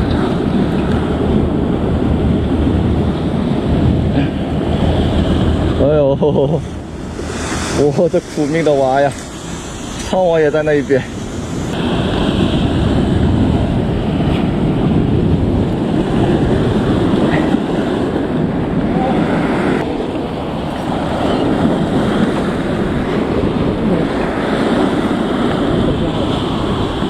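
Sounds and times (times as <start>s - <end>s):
sea: 0.0s - 27.0s
wind buffeting microphone: 0.0s - 27.0s
wind rushing: 0.0s - 27.0s.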